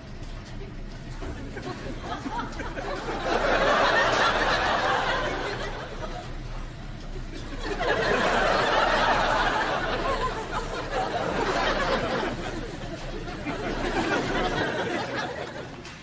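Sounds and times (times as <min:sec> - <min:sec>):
studio audience laughing: 0:01.2 - 0:15.9.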